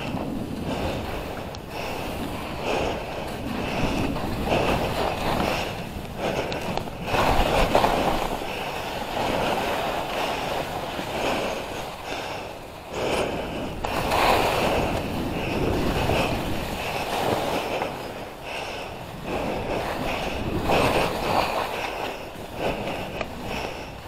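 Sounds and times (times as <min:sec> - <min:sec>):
skis scraping through snow: 0:00.0 - 0:12.2, 0:13.1 - 0:24.0
wind buffeting microphone: 0:00.0 - 0:24.0.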